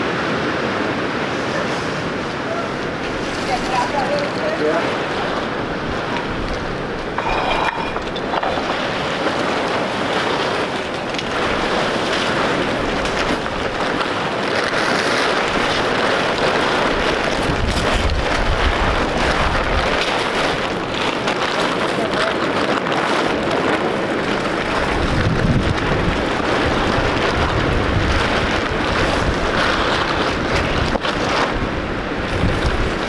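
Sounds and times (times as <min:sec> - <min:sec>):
gusty wind buffeting microphone: 0:00.0 - 0:33.0
tarps crackling and flapping: 0:01.5 - 0:33.0.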